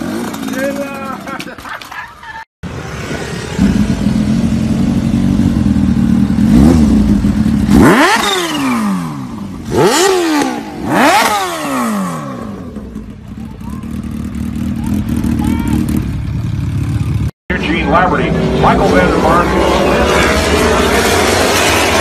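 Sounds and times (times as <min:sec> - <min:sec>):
motorcycle engines idling and revving: 0:00.0 - 0:22.0.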